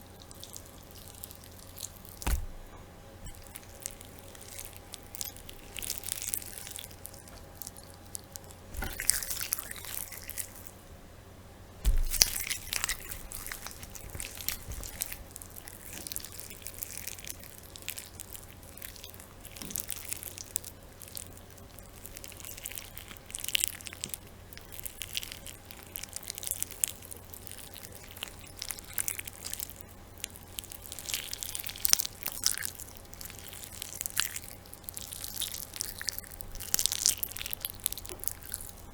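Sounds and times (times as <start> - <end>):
raw meat squishing by hand: 0.0 - 10.8, 11.8 - 38.9
faint steady hum: 0.0 - 38.9.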